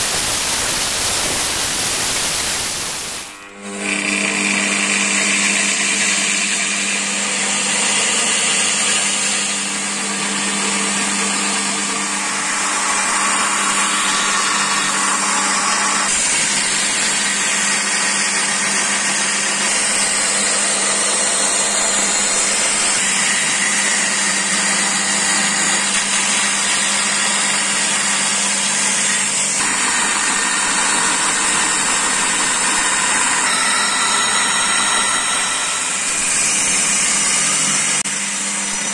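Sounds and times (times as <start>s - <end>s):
belt grinder grinding steel: 0.0s - 38.9s.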